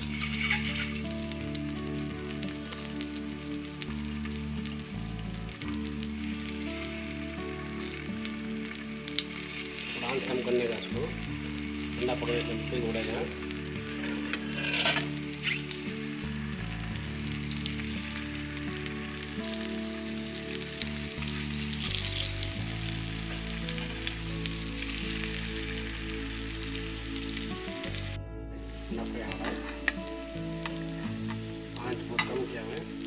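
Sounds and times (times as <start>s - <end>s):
eggs sizzling in oil: 0.0s - 33.0s.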